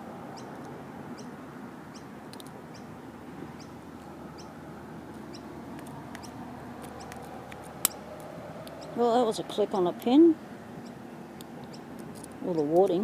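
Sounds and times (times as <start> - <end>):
small bird chirping: 0.3 - 2.1, 2.7 - 4.6, 5.2 - 9.9, 10.8 - 13.0.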